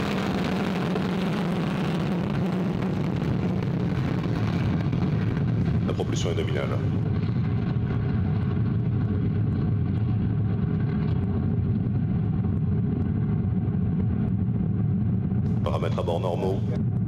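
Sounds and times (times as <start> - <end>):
rocket motor rumble: 0.0 - 17.0.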